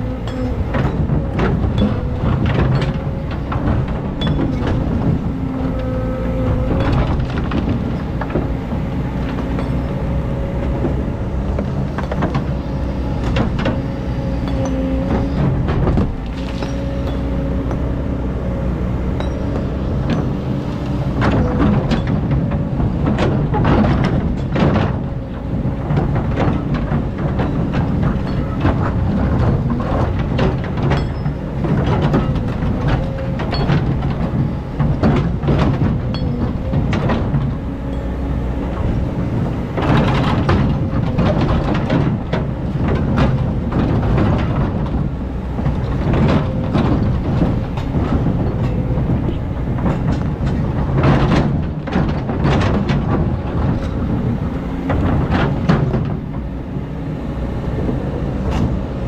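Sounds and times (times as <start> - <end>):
diesel engine under load: 0.0 - 59.0
metal clanks and knocks: 0.0 - 59.0.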